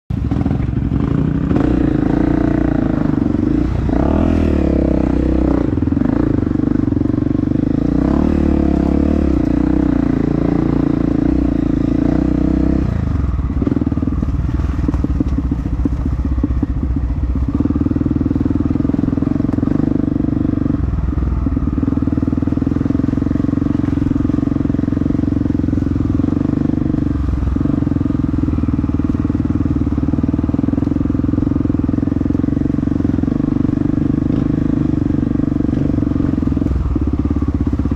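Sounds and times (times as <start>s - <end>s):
dirt bike engine running hard: 0.1s - 37.9s.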